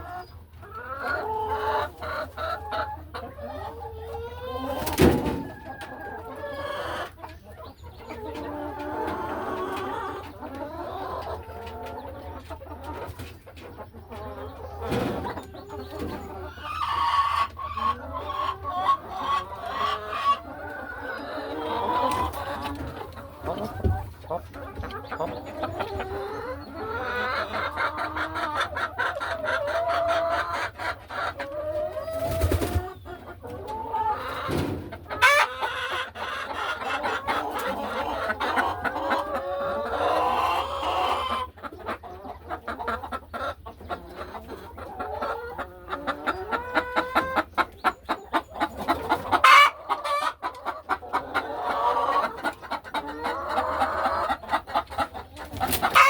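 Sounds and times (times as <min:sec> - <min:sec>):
hens clucking and calling: 0:00.0 - 0:56.0.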